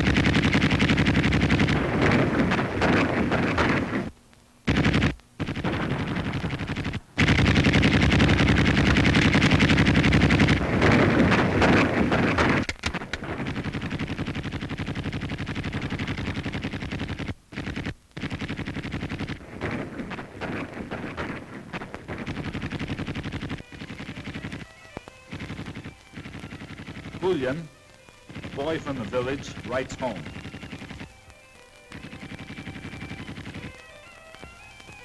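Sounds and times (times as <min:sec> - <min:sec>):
machine-gun fire bursts: 0:00.0 - 0:04.1, 0:04.7 - 0:35.0.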